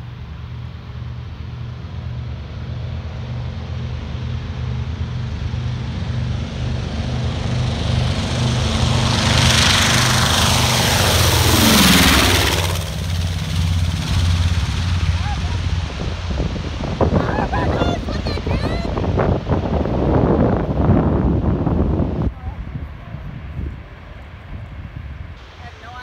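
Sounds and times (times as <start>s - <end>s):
aircraft passing overhead whoosh: 0.0s - 26.0s
propeller plane engines roaring: 0.0s - 26.0s.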